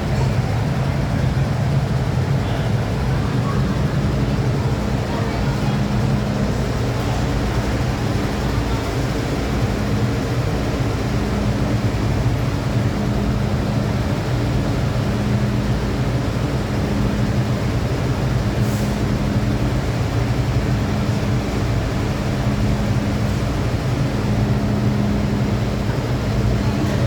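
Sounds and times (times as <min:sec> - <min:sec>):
train interior rumble and hum: 0:00.0 - 0:27.0.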